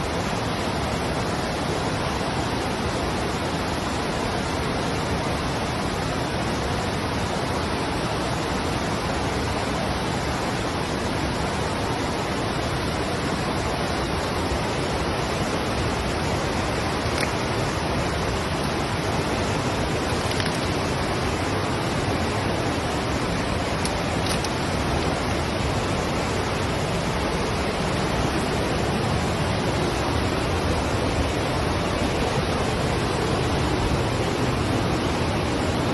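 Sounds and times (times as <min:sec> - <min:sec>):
steady rushing noise: 0:00.0 - 0:35.9.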